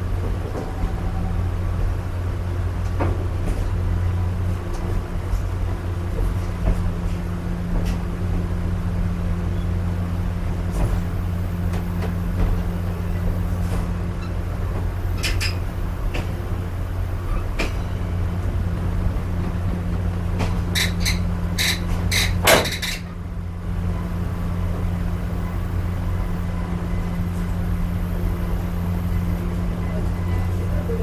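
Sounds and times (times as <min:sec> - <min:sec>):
train coach rumble: 0:00.0 - 0:31.0.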